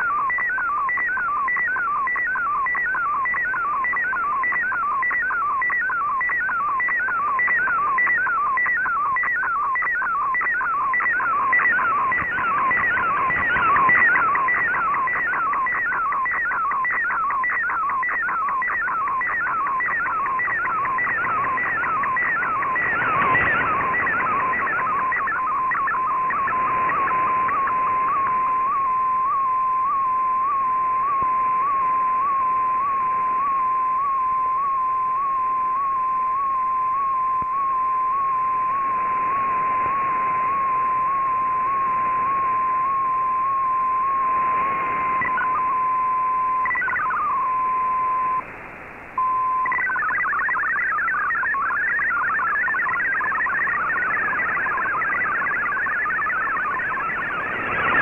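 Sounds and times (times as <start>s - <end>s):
digital radio signal tone: 0.0s - 48.5s, 49.1s - 58.0s
warbling multi-tone data chatter: 0.0s - 48.5s, 49.2s - 58.0s.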